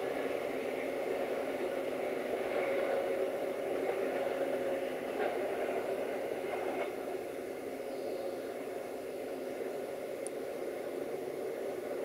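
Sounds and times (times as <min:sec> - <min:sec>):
passenger train rolling: 0:00.0 - 0:12.0.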